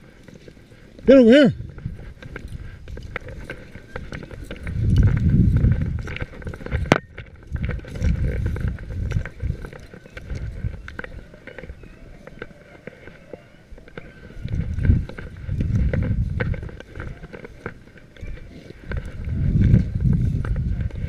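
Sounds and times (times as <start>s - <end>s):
footsteps through dry grass and snow: 0.0s - 21.0s
wind buffeting microphone: 0.0s - 21.0s.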